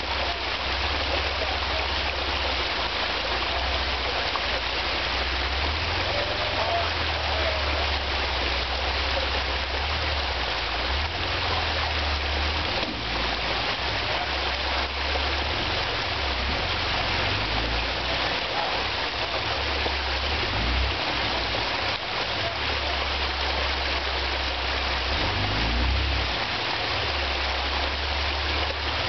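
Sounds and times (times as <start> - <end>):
water rushing in creek: 0.0 - 29.0.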